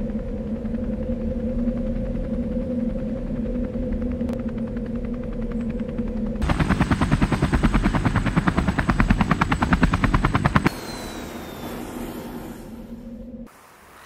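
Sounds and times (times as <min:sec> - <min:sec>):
helicopter rotor chop: 0:00.0 - 0:14.0
steady rotor and engine noise: 0:00.0 - 0:14.0.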